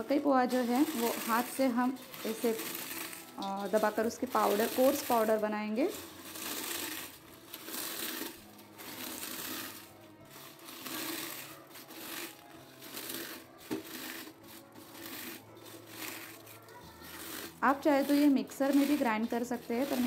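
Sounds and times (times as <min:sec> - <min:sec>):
corn flakes crunching in steel bowl: 0:00.0 - 0:20.0.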